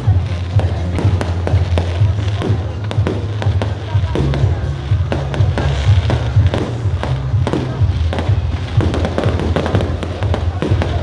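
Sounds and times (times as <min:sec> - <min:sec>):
fireworks bursting: 0:00.0 - 0:11.0
loud music with heavy bass: 0:00.0 - 0:11.0.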